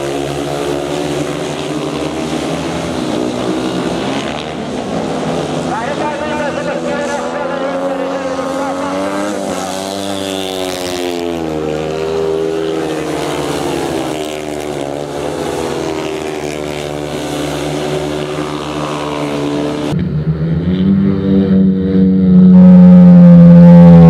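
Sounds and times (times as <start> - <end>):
motorcycle engines racing: 0.0 - 24.0.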